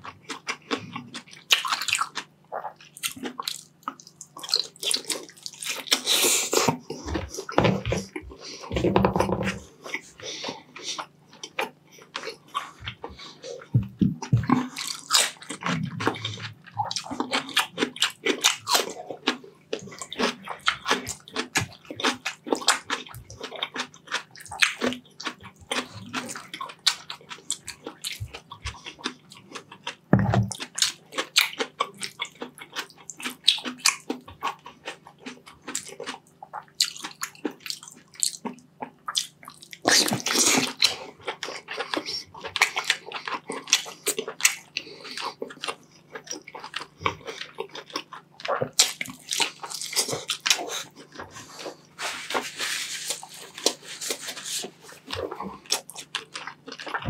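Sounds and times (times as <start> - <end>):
wet chewing and lip-smacking: 0.0 - 8.7, 9.5 - 57.0.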